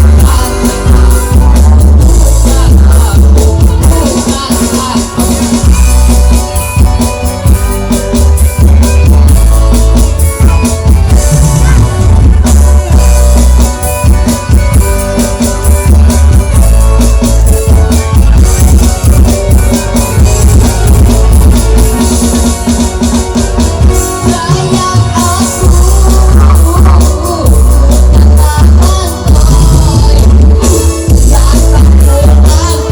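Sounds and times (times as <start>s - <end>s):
drum kit beat: 0.0s - 32.9s
heavy bass: 0.0s - 32.9s
loud band music: 0.0s - 32.9s.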